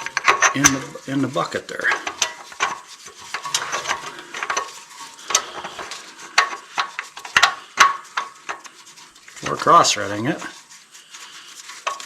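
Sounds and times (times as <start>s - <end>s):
light metal scraping: 0.0s - 12.0s.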